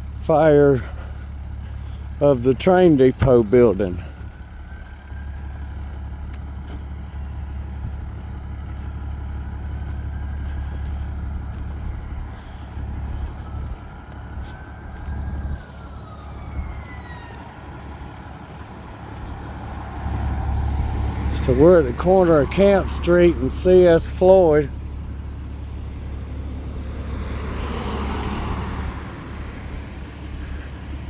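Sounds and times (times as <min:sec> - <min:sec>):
vehicle engines rumbling: 0:00.0 - 0:31.0
distant emergency siren: 0:03.2 - 0:31.0.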